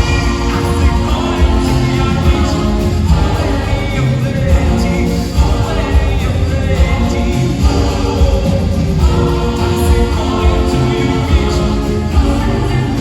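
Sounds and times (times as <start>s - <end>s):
music with singing voices: 0.0s - 13.0s
pulsing bass: 0.0s - 13.0s.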